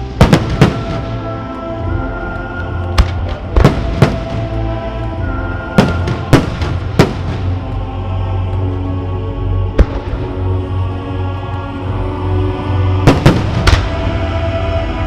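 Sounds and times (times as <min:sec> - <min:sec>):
music with sustained notes: 0:00.0 - 0:15.0.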